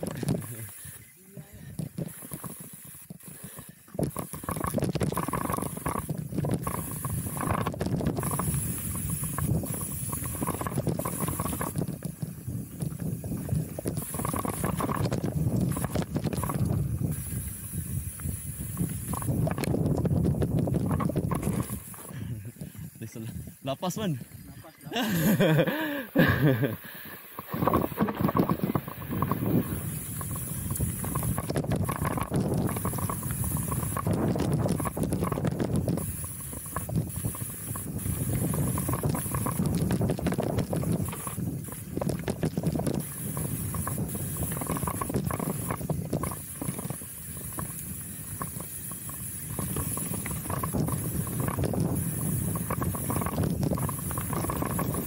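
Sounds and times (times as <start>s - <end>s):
bike tyres rolling over dirt: 0.0s - 24.4s, 25.1s - 55.0s
wind on microphone: 0.0s - 24.6s, 27.4s - 55.0s
bike rattling and knocking: 1.7s - 22.7s, 27.5s - 55.0s.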